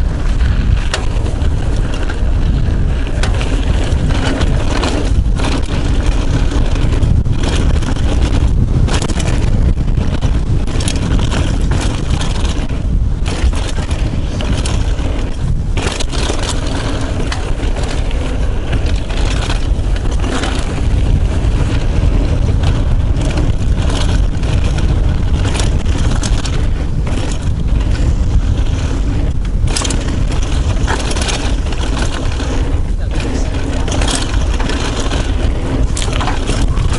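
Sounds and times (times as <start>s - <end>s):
bike clattering over bumps: 0.0s - 36.9s
tyres crunching over dirt: 0.0s - 36.9s
wind noise on microphone: 0.0s - 36.9s.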